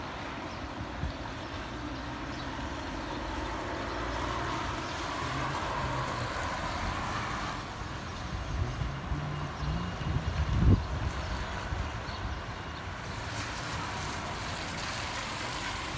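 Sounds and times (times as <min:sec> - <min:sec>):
traffic hum: 0:00.1 - 0:15.9.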